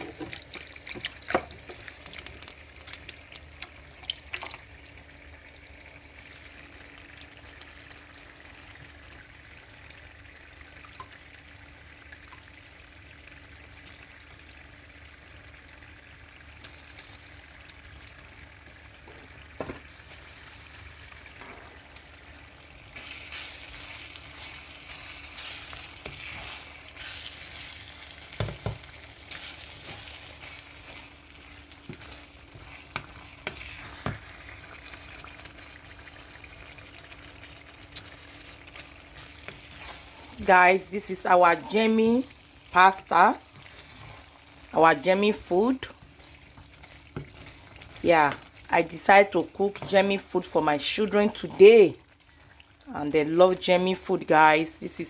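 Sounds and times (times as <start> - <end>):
sauce sizzling in a pan: 0.0 - 55.0.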